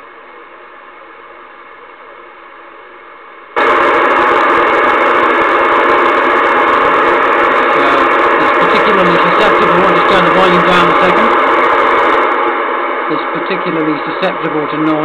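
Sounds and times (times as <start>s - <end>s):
shortwave radio noise hissing: 0.0s - 15.0s.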